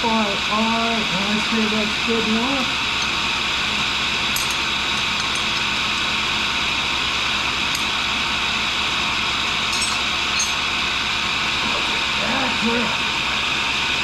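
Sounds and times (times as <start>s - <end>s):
grinder whirring: 2.0s - 14.0s.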